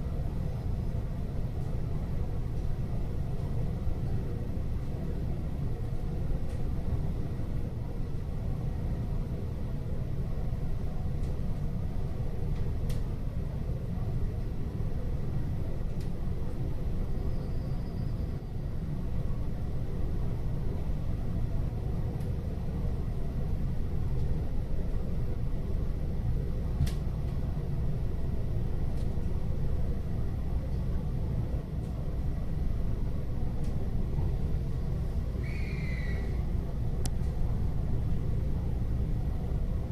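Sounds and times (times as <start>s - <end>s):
train car low rumble: 0.0s - 39.9s.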